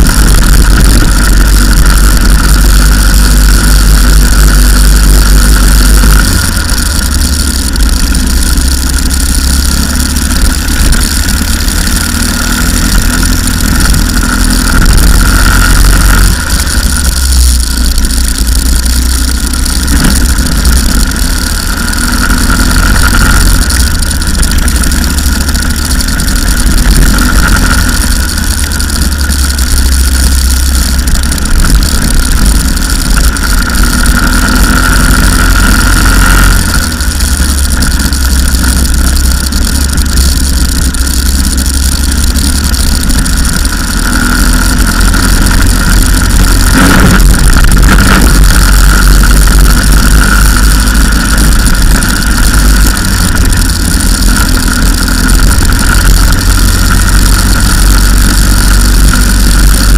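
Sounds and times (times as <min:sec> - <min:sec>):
go-kart engine: 0:00.0 - 0:59.9
wind rumble on microphone: 0:00.0 - 0:59.9.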